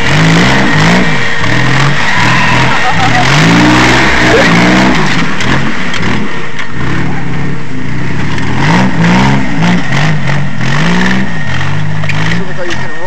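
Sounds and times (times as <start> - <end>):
jeep engine revving: 0.0 - 13.0.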